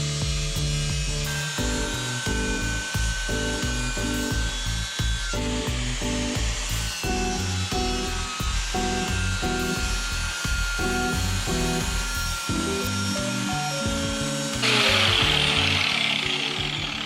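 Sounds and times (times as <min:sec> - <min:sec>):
background music with beat: 0:00.0 - 0:17.0.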